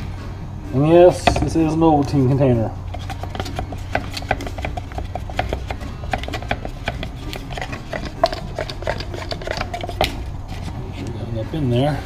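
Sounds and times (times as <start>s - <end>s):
stir stick scraping plastic tub: 1.3s - 11.2s.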